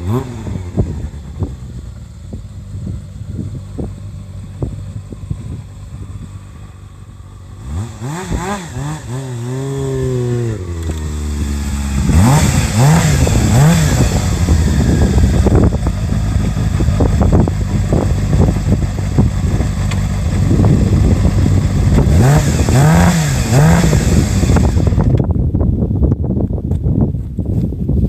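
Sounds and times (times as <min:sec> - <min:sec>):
motorcycle engine revving: 0:00.0 - 0:25.5.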